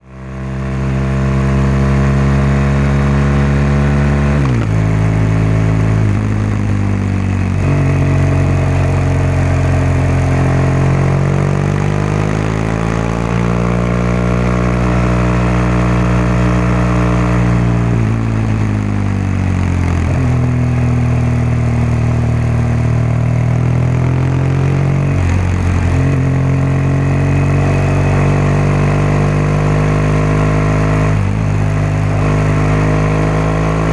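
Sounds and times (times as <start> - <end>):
motorcycle engine revving while riding: 0.0 - 33.9.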